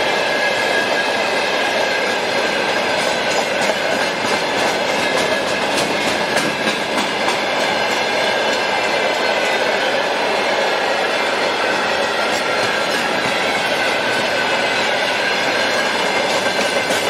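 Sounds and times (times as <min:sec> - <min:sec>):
train wheels rumbling on rails: 0:00.0 - 0:17.0
wheels clacking over rail joints: 0:01.6 - 0:10.0, 0:11.3 - 0:17.0.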